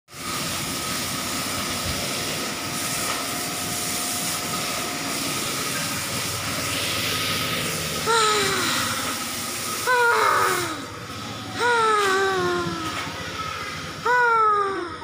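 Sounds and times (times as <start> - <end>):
washing machine drum spinning: 0.1 - 15.0.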